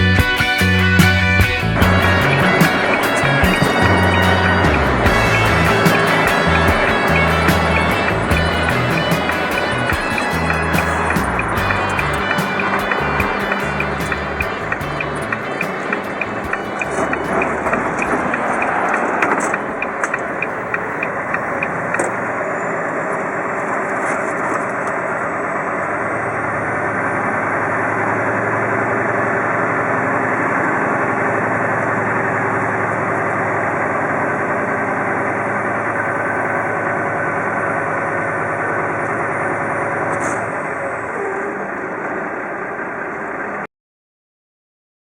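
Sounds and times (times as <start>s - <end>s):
heavy truck engine running: 0.0s - 43.6s
faint high whine: 1.6s - 43.6s.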